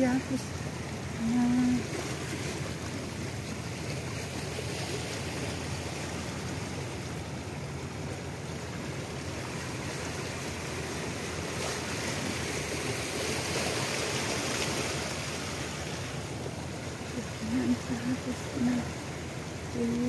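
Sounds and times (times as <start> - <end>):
water washing: 0.0 - 20.0.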